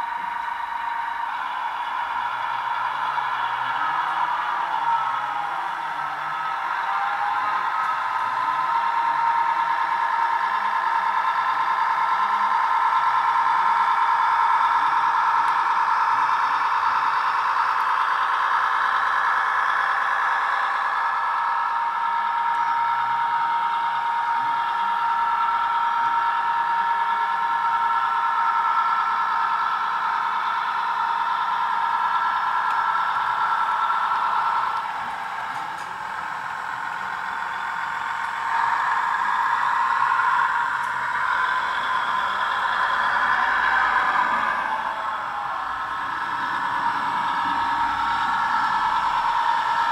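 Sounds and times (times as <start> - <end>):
model train diesel engine sound: 0.0 - 49.9.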